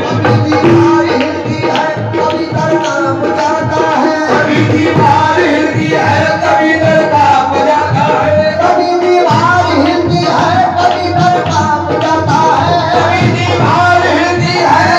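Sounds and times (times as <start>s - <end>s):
tabla drumming: 0.0s - 14.9s.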